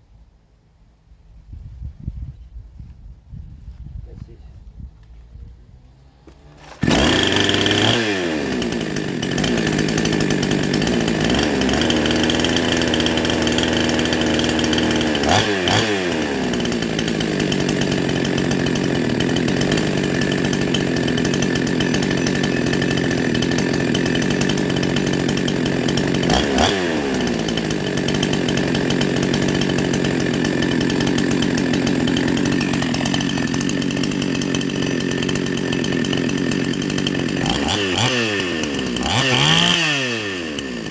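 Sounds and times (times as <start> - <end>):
chainsaw revving and idling: 5.9 - 40.9.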